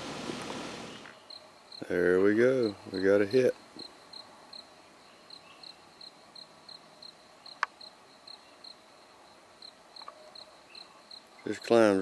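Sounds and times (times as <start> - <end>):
insect chirping: 0.8 - 12.0.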